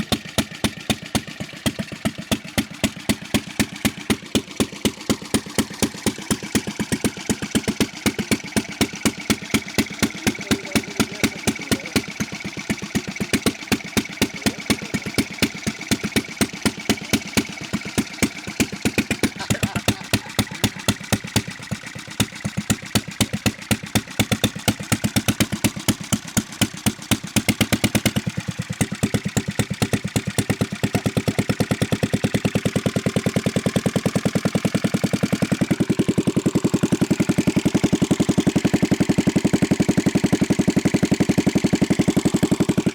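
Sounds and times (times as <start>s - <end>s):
single-cylinder engine running: 0.0s - 42.9s.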